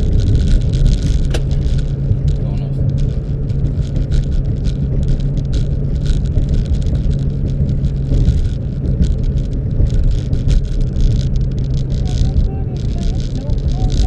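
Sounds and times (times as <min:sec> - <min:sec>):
car engine humming: 0:00.0 - 0:14.0
light clicks and rattles: 0:00.0 - 0:14.0.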